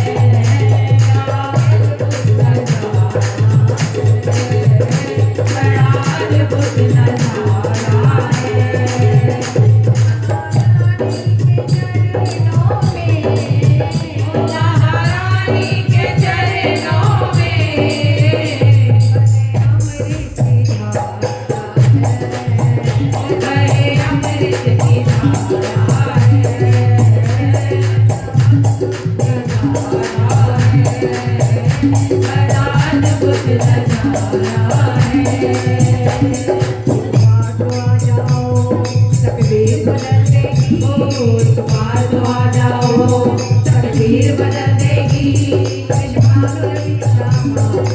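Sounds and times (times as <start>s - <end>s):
jingling hand percussion: 0.0s - 47.9s.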